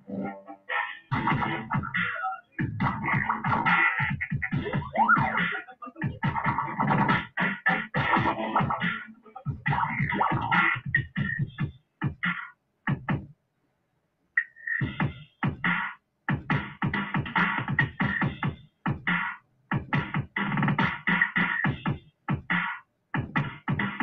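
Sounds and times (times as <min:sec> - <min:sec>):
choppy electronic music: 0:00.0 - 0:13.2, 0:14.4 - 0:24.0.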